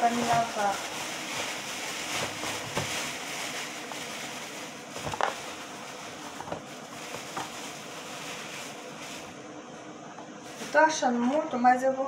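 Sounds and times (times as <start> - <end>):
plastic bag rustling: 0.0 - 11.3.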